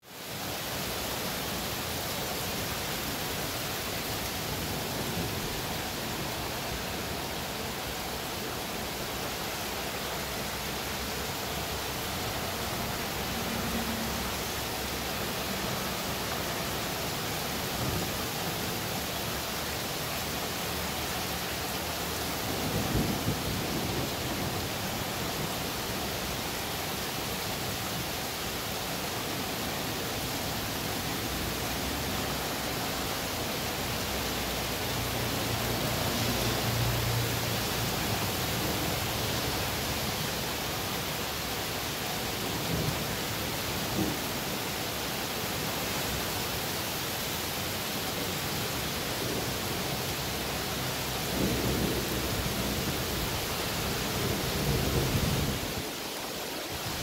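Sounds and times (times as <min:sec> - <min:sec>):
rain hissing: 0:00.0 - 0:57.0.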